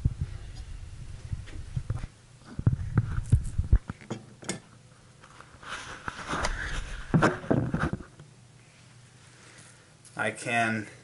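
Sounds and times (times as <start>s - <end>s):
rustling and handling noise: 0.5s - 4.3s, 4.9s - 10.7s.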